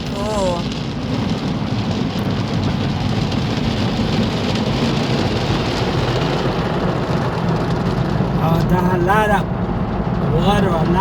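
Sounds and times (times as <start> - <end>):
car wash water rushing: 0.0 - 11.0
low rumble: 0.0 - 11.0.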